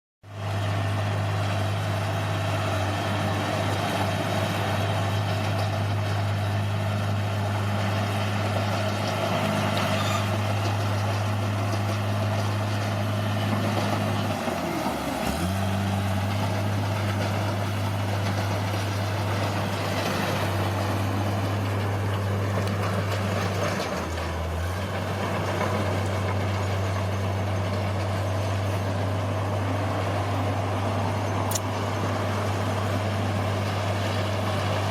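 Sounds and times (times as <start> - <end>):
bulldozer diesel engine: 0.2 - 34.9.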